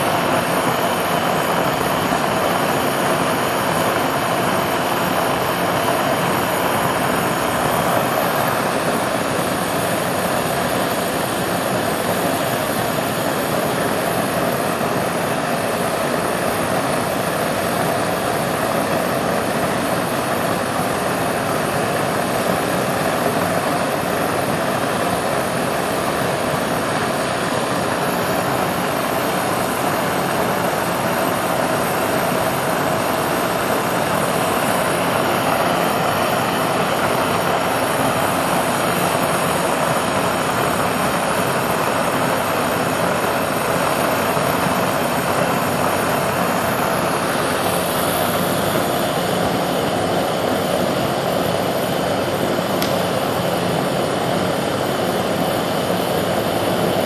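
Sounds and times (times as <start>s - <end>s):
gas burner rushing: 0.0s - 57.0s.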